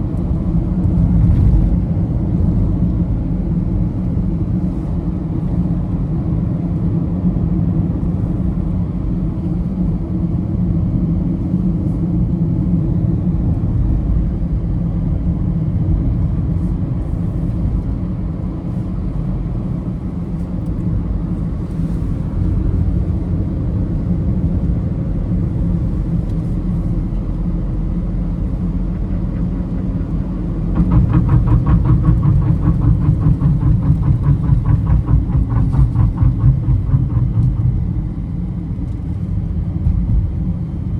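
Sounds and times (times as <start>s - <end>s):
road vehicle rumbling: 0.0s - 40.9s.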